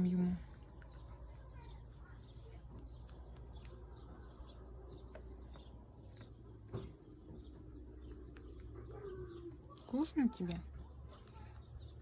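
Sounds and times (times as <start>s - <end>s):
faint bird chirps: 0.0s - 10.5s.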